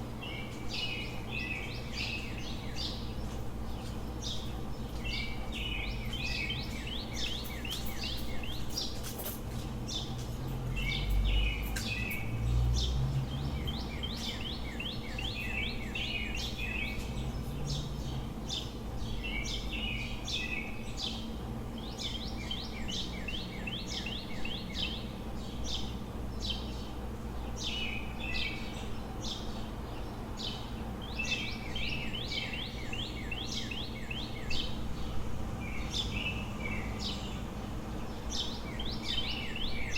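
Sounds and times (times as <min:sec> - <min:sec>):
birds chirping: 0:00.0 - 0:39.9
low city hum: 0:00.0 - 0:39.9.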